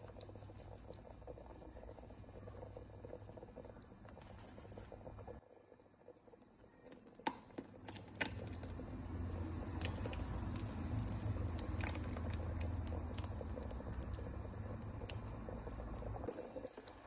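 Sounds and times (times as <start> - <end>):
soup pot cooking with pops: 0.0 - 17.0.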